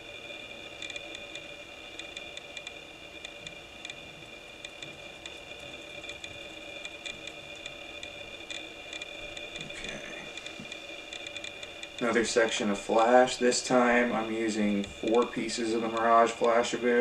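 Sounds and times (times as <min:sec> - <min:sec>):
background hum with high whine: 0:00.0 - 0:17.0
faint handling ticks: 0:00.8 - 0:17.0.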